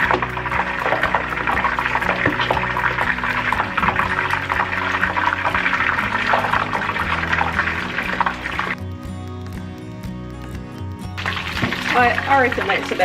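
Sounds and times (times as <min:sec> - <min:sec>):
chicken sizzling in hot oil: 0:00.0 - 0:08.8, 0:11.2 - 0:13.0.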